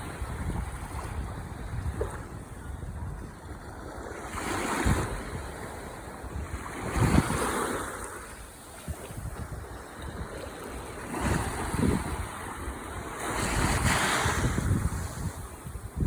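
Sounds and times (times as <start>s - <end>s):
low rumble of surf: 0.0s - 16.0s
ocean waves breaking: 0.0s - 16.0s.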